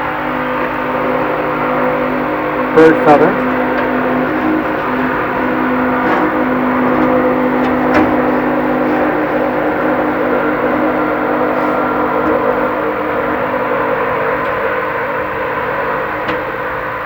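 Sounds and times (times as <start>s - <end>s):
machinery whirring and humming: 0.0s - 17.0s.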